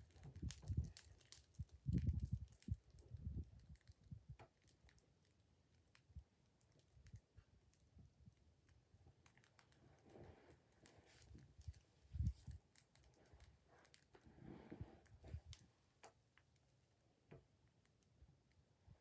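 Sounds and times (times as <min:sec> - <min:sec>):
bonfire crackling and popping: 0:00.0 - 0:16.7.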